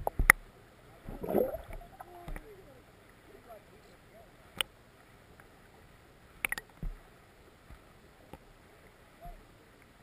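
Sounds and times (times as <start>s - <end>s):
faint underwater hiss: 0.0s - 10.0s.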